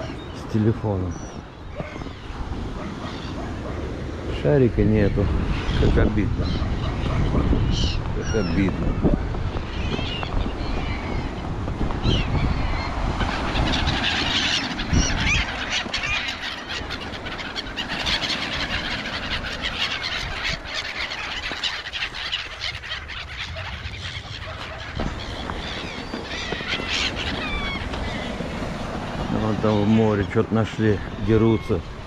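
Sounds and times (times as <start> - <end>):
gulls calling: 0.0 - 32.0
wind and surf rumble: 0.0 - 32.0.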